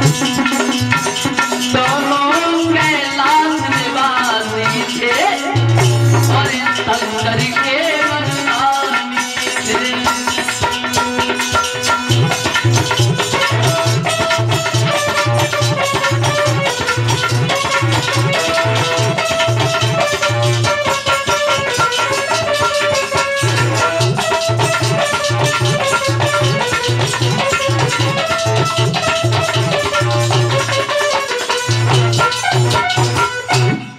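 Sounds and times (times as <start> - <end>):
steady beat: 0.0 - 2.5, 9.1 - 33.9.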